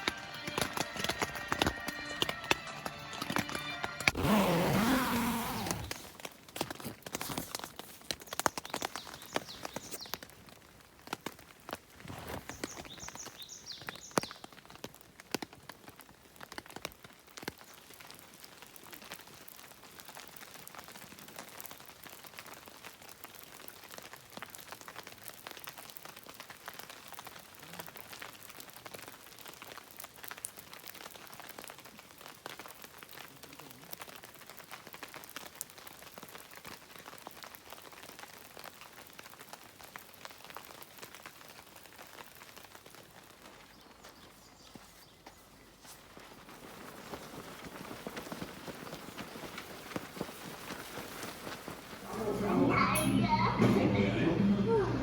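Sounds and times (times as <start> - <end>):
light rain pattering: 5.0 - 52.6.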